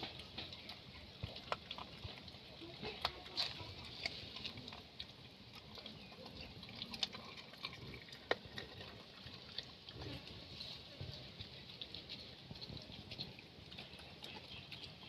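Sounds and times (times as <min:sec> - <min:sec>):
dog eating food: 0:00.0 - 0:15.0
small clicks and smacking: 0:00.0 - 0:15.0.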